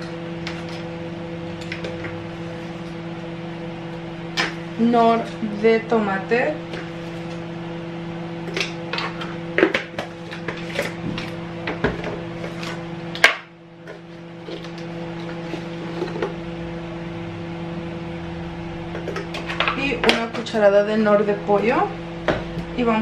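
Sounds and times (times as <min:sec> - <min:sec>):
low appliance hum: 0:00.0 - 0:23.0.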